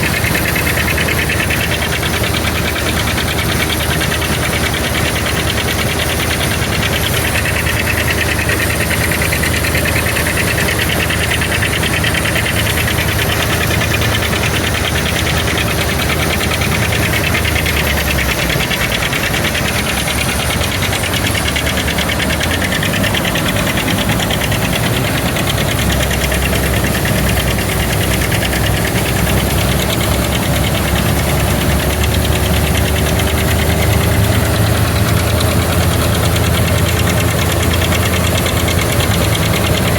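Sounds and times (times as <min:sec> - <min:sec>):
farm machinery engine running: 0:00.0 - 0:39.9.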